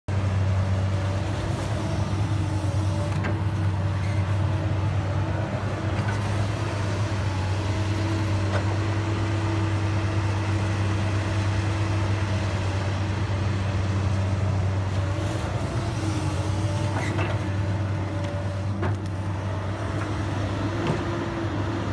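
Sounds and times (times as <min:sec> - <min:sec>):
excavator diesel engine running: 0:00.1 - 0:21.9.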